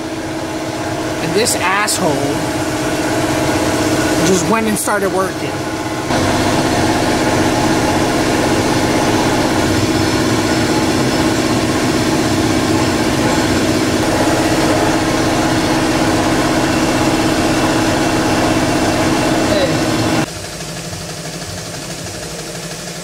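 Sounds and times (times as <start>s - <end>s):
pump humming: 0.0s - 23.0s.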